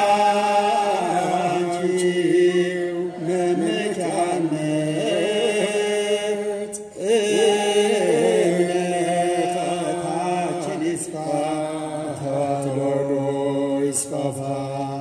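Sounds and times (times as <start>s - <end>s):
two men chanting a hymn: 0.0s - 15.0s.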